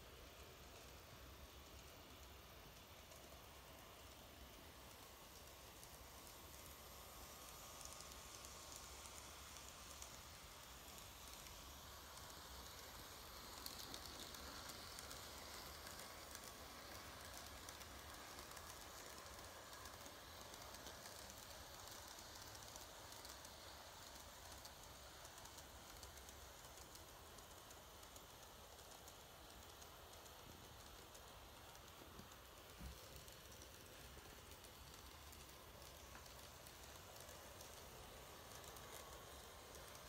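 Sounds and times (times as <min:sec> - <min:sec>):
model train running on track: 0:00.0 - 0:40.0
wheels ticking on rails: 0:00.0 - 0:40.0.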